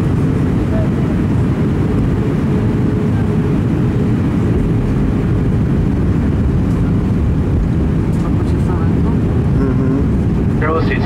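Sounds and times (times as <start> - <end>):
airplane cabin engine noise: 0.0 - 11.0.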